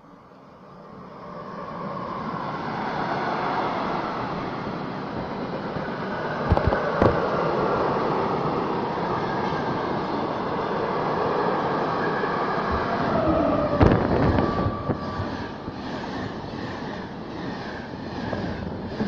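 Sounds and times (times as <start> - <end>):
passenger train rushing past: 0.0 - 19.0
freight train wheels on rails: 0.7 - 19.0.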